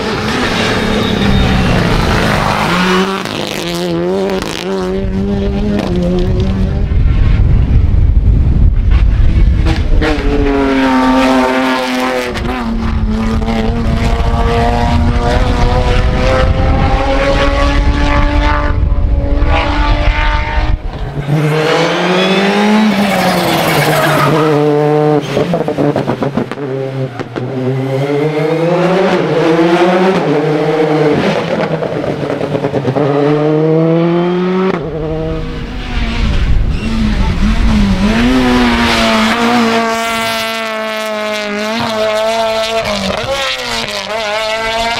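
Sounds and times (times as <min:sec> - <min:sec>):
turbocharged car engine shifting gears: 0:00.0 - 0:07.4, 0:08.8 - 0:44.9
rally car engines revving: 0:00.0 - 0:44.9.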